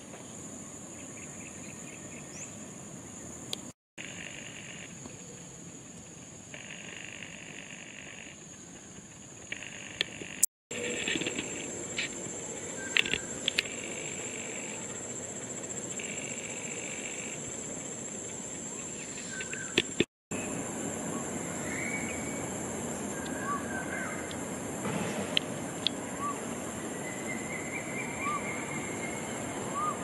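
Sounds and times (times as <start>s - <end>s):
insects buzzing in swells: 0.0s - 30.0s
insects droning: 0.0s - 30.0s.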